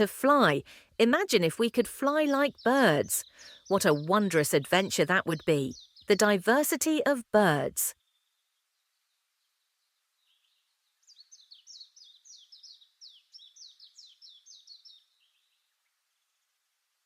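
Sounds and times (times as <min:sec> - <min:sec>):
faint songbird song: 0:00.0 - 0:07.2, 0:07.9 - 0:17.0.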